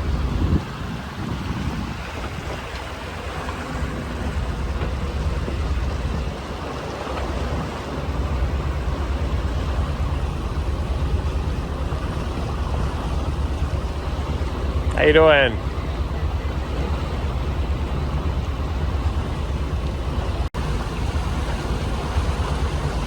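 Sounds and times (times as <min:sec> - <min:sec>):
motorboat engine humming: 0:00.0 - 0:23.0
water noise: 0:00.0 - 0:23.0
wind noise: 0:00.0 - 0:23.0.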